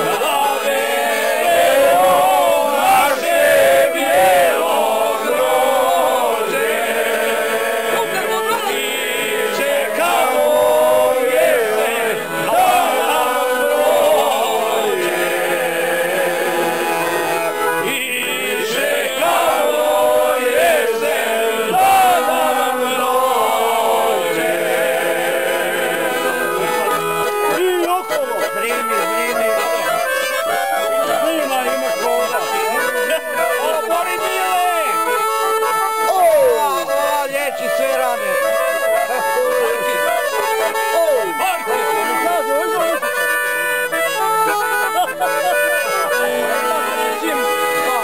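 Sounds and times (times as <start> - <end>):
accordion playing: 0.0 - 48.0
group singing folk song: 0.0 - 48.0.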